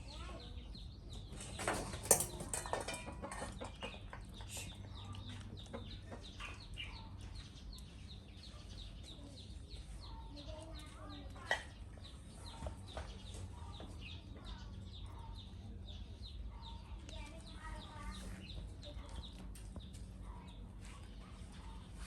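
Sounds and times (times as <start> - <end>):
short chirping calls and clucks: 0.0 - 22.0.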